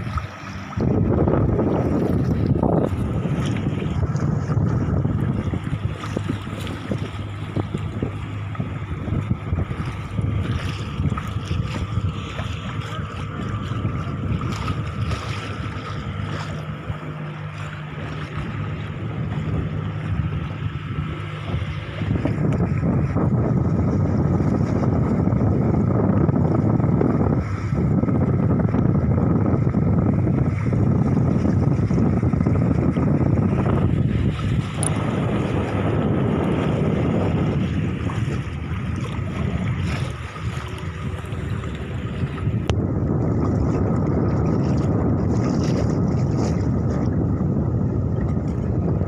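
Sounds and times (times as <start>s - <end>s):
boat engine hum: 0.0s - 49.0s
water noise: 0.0s - 49.0s
wind: 0.0s - 49.0s.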